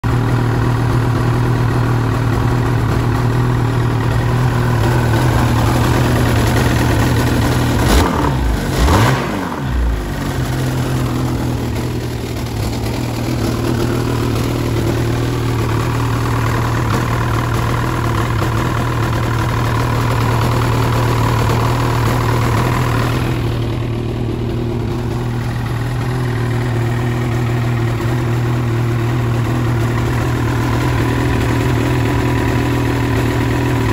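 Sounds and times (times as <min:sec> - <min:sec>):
snowmobile engine idling: 0:00.0 - 0:33.9.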